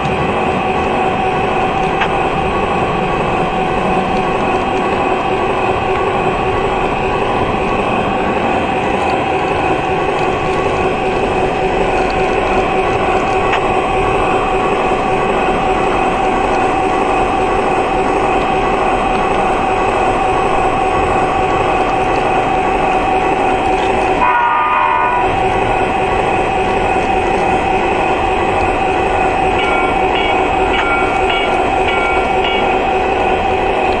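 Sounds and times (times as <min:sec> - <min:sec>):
wheels rumbling on track: 0:00.0 - 0:34.0.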